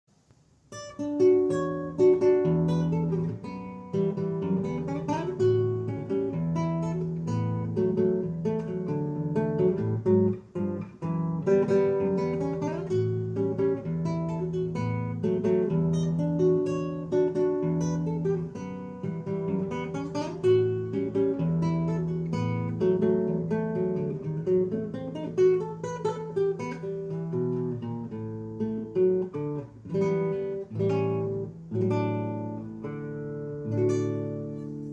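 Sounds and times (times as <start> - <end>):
acoustic guitar plucked notes: 0.7 - 34.9.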